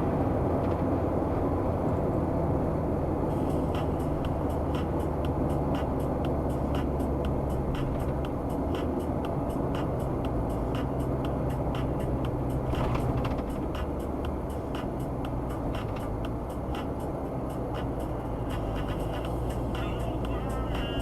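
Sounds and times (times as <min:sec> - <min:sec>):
car interior road and engine hum: 0:00.0 - 0:21.0
turn signal ticking: 0:03.3 - 0:21.0.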